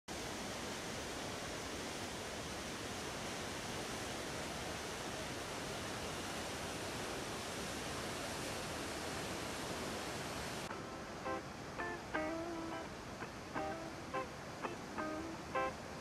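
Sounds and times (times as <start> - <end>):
river rushing over rapids: 0.1 - 16.0.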